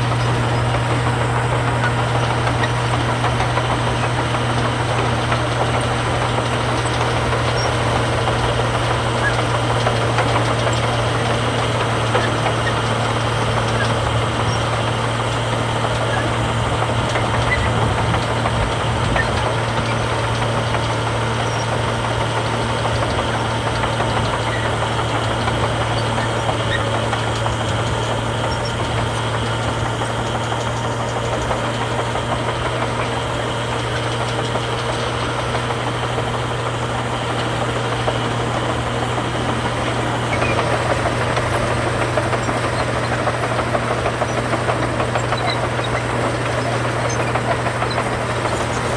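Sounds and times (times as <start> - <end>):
heavy machinery diesel engine: 0.0 - 48.9.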